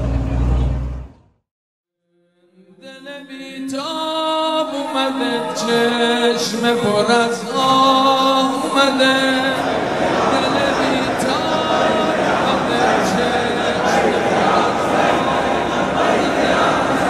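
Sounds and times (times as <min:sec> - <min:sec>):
men chanting a lament: 0:02.9 - 0:17.0.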